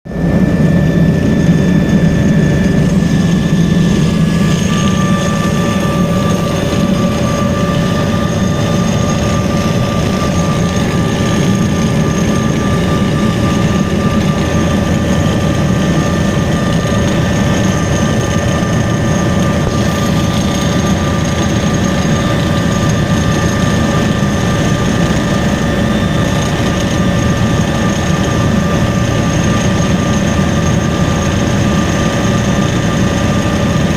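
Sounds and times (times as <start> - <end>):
helicopter engine and rotor drone: 0.0 - 33.9.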